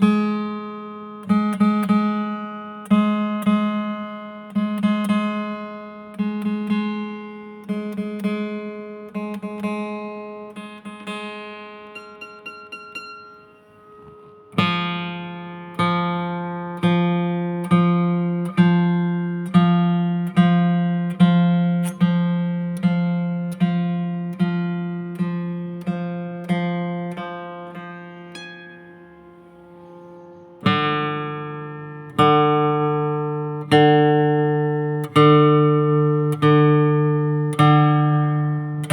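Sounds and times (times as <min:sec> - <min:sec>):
guitar picked and strummed: 0:00.0 - 0:38.9.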